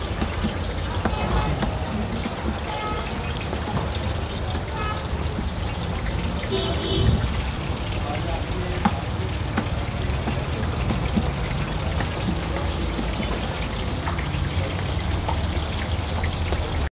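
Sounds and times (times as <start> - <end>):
patties deep-frying in oil: 0.0 - 16.9.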